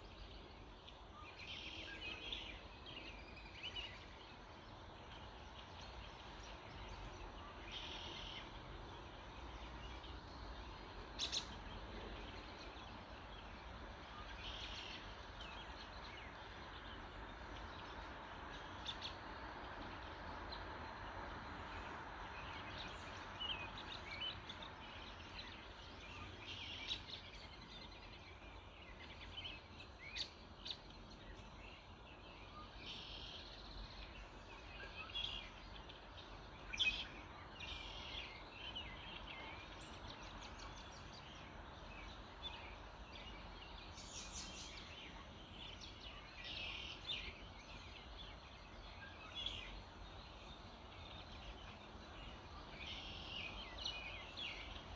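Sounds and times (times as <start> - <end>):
background hiss: 0.0 - 54.9
songbirds chirping and trilling: 0.0 - 54.9.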